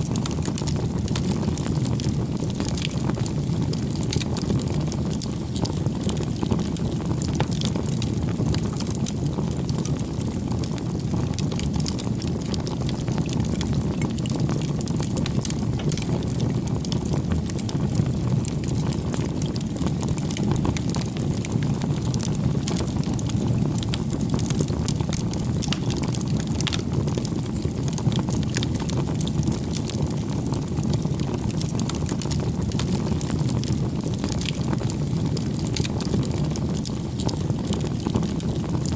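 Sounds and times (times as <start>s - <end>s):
rush of flames: 0.0s - 38.9s
wood crackling and popping: 0.0s - 38.9s.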